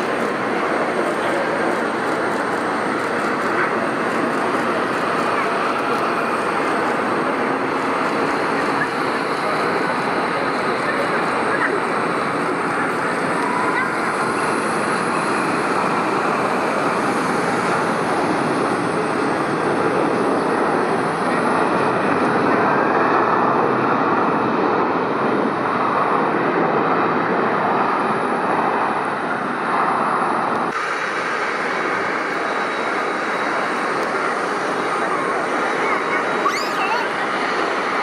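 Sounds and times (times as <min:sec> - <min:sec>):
jet engine rushing: 0:00.0 - 0:38.0.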